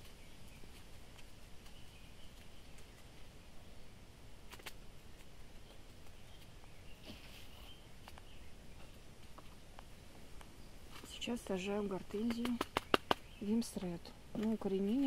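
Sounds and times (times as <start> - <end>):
potting soil rustling: 0.0 - 3.5, 4.4 - 15.0.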